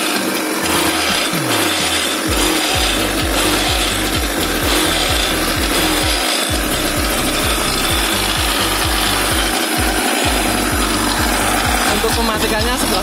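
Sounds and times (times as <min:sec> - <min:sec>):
two-stroke scooter engine running: 0:00.0 - 0:13.0.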